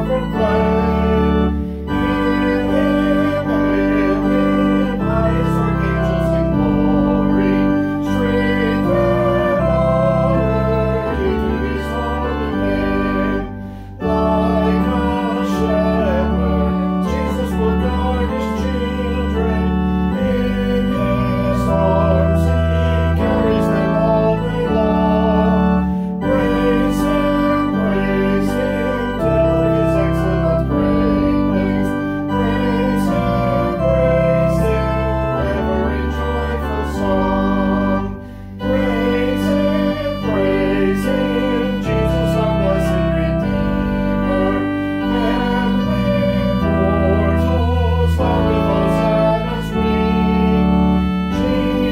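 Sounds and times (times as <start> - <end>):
organ playing hymn chords: 0.0 - 51.9.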